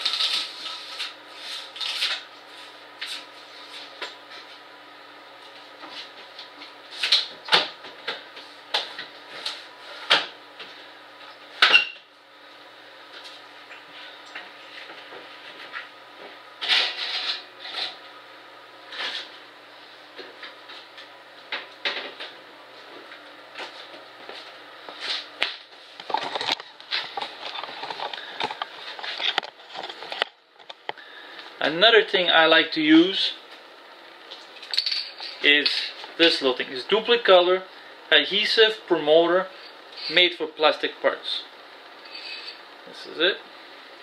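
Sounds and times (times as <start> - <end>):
faint background hum: 0.0 - 44.0.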